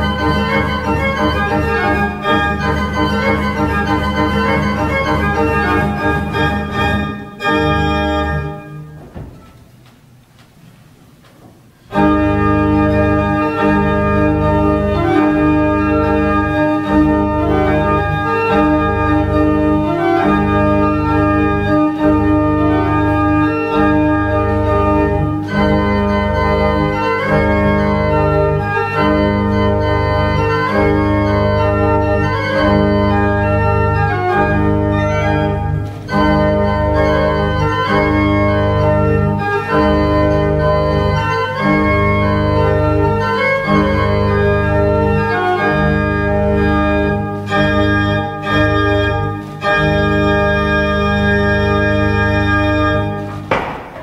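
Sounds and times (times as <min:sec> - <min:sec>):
pipe organ playing dance music: 0:00.0 - 0:10.2, 0:11.7 - 0:54.0.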